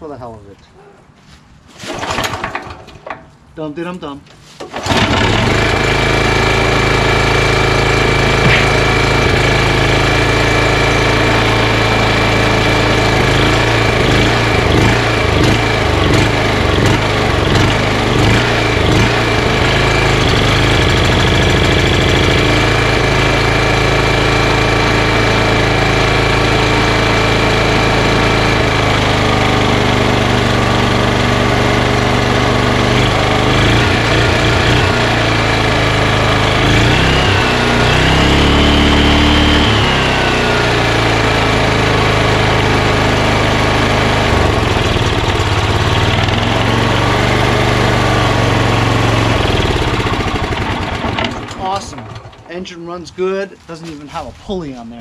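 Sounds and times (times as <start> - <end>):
small engine running: 4.7 - 52.7.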